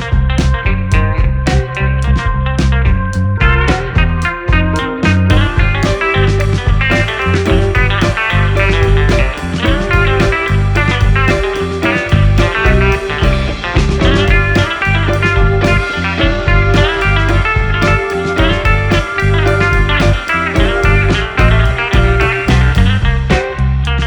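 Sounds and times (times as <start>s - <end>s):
guitar-led music with heavy bass: 0.0s - 24.0s.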